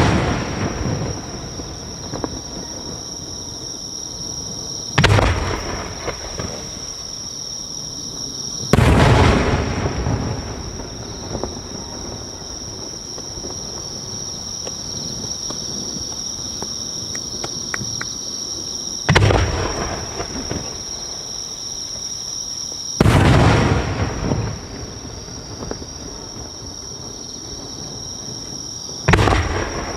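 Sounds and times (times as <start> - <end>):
fireworks booming: 0.0 - 18.2, 18.9 - 22.1, 22.9 - 29.9.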